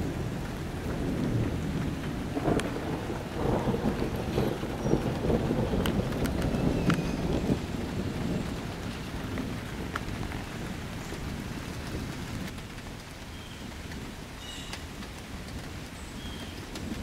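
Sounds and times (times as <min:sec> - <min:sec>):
low thunder rumble: 0:00.0 - 0:14.3
steady rain falling: 0:00.0 - 0:17.0.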